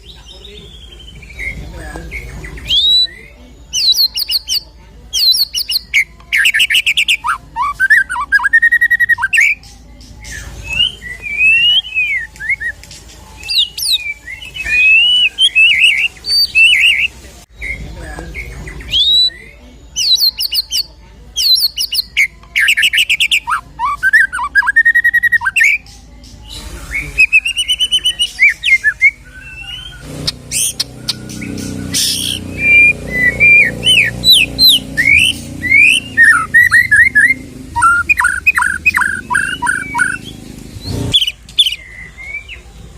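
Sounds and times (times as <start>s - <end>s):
songbird singing varied song: 0.0s - 42.9s.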